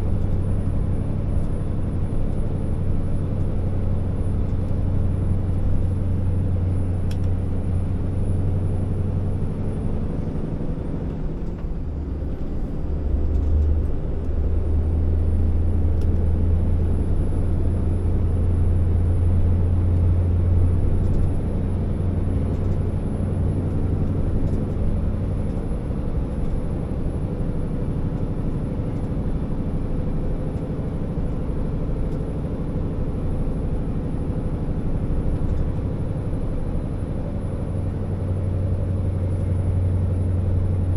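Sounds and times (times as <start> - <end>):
diesel truck engine droning: 0.0 - 40.9.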